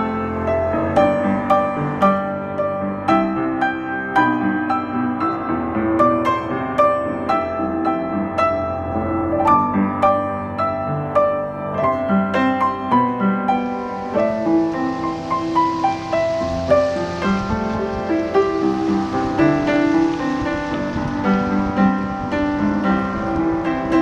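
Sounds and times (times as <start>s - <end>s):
gentle piano melody: 0.0s - 24.0s
steady hiss: 0.0s - 24.0s.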